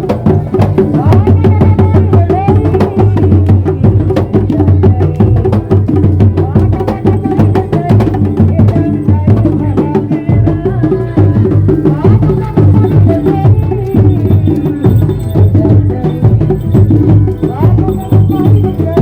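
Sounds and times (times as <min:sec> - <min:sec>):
drums and percussion: 0:00.0 - 0:19.0.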